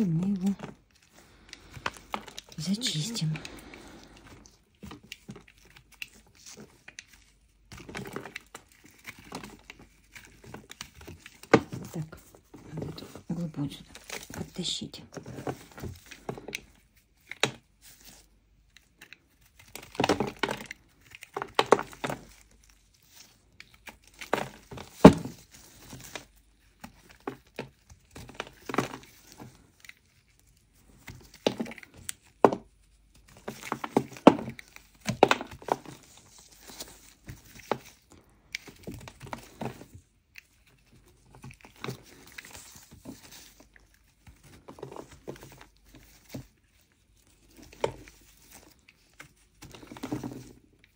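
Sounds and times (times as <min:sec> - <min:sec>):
clay crumbs crackling: 0:00.0 - 0:50.9.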